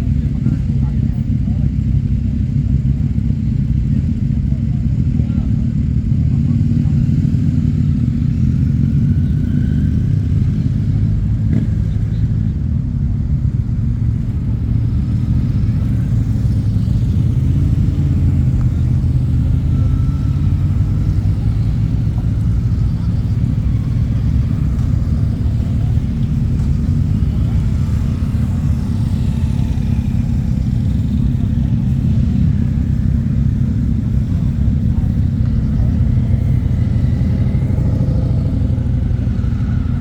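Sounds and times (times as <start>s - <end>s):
motorcycle engines rumbling: 0.0s - 40.0s.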